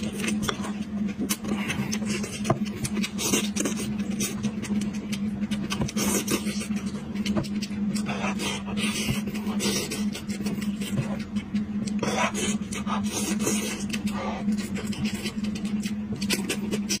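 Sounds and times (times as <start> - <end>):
low hum: 0.0 - 17.0
wet chewing and slurping: 0.0 - 17.0.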